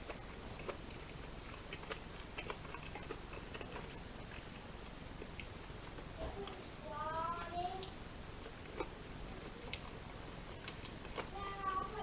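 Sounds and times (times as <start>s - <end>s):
person chewing close up: 0.0s - 6.6s, 7.4s - 12.0s.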